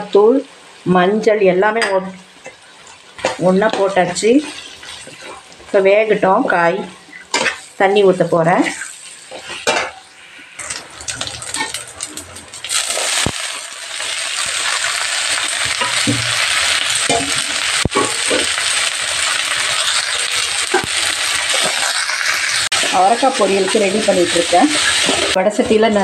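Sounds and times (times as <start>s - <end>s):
beans sizzling in oil: 0.0s - 26.0s
spatula scraping in pan: 2.4s - 5.8s, 6.5s - 7.8s, 8.6s - 25.4s.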